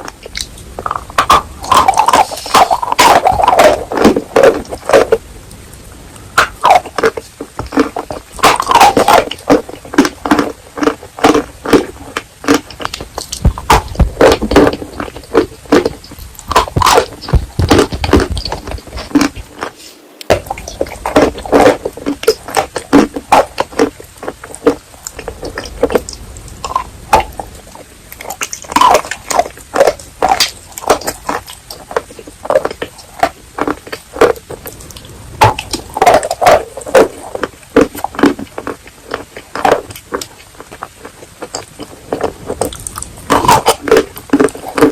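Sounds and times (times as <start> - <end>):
wet squishing: 0.0 - 5.6, 6.3 - 44.9
crunchy chewing: 0.0 - 44.9.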